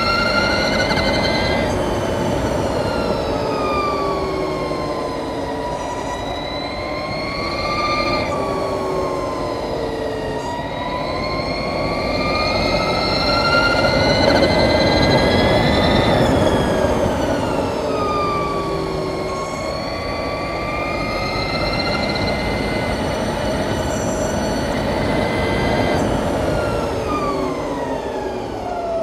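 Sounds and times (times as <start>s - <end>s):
electric motorcycle motor whine: 0.0s - 29.0s
wind and road noise: 0.0s - 29.0s.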